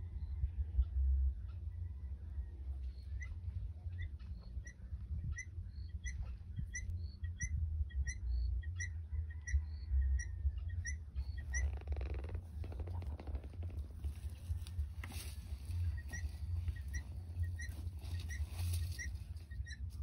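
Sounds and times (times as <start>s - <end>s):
low rumble: 0.0s - 20.0s
guineafowl calling: 0.4s - 20.0s.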